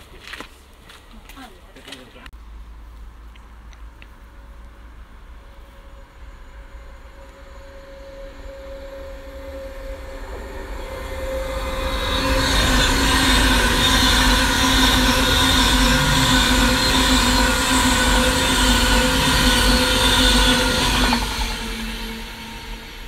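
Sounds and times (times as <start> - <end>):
low train hum: 0.0 - 23.0
train passing at speed: 3.5 - 23.0.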